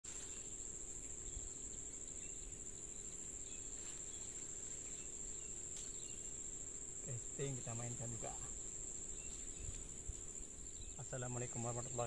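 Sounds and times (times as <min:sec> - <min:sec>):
insect chorus shrill drone: 0:00.1 - 0:12.0.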